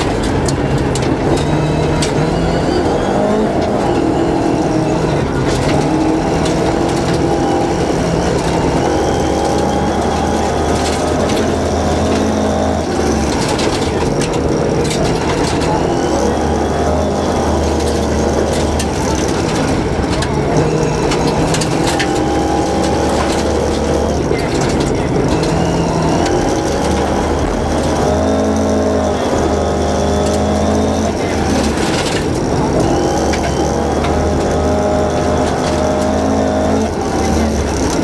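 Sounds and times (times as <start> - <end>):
car engine running hard: 0.0 - 38.0
sharp clicks and rattles: 0.0 - 38.0.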